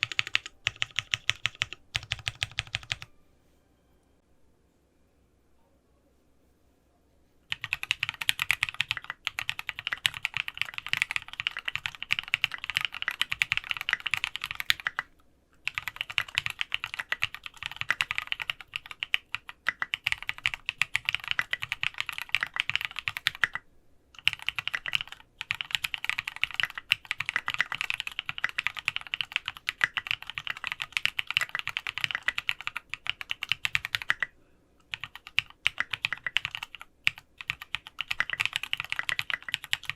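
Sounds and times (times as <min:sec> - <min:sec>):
rapid typing on mechanical keyboard: 0:00.0 - 0:03.1, 0:07.5 - 0:23.6, 0:24.2 - 0:34.3, 0:34.9 - 0:39.9.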